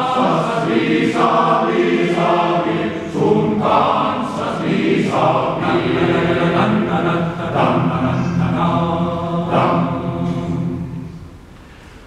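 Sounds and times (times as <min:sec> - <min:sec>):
men's choir singing in harmony: 0:00.0 - 0:11.6.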